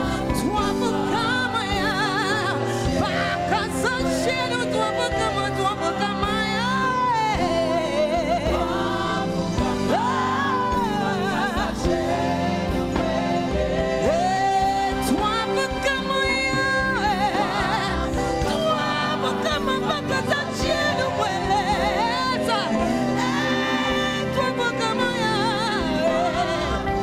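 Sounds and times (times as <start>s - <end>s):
instrumental backing: 0.0s - 27.0s
woman singing gospel: 0.0s - 27.0s.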